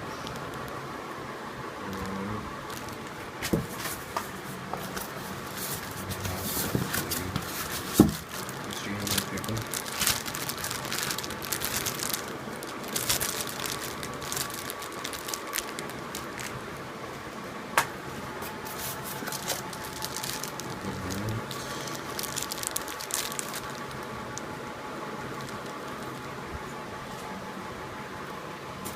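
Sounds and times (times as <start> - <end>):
packaging crinkling and rustling: 0.1 - 0.9, 1.8 - 16.8, 18.4 - 27.3.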